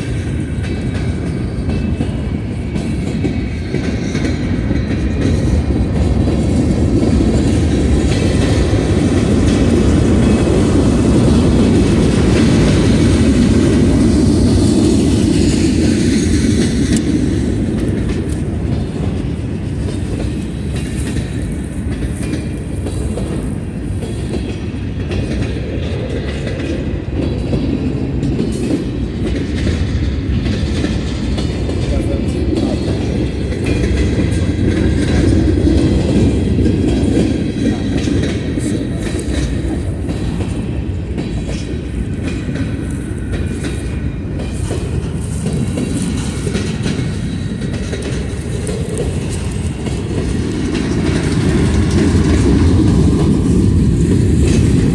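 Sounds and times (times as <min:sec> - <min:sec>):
low rumble of train: 0:00.0 - 0:54.9
train wheels clattering over rails: 0:00.0 - 0:54.9.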